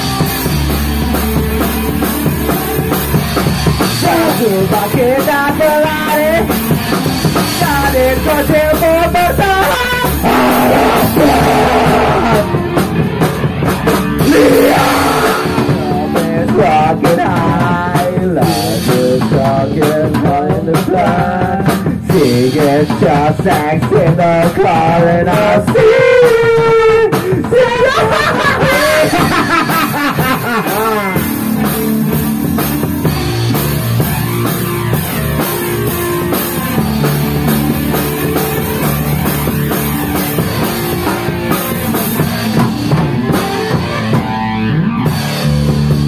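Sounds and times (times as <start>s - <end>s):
drum kit: 0.0s - 46.0s
electric guitar and bass: 0.0s - 46.0s.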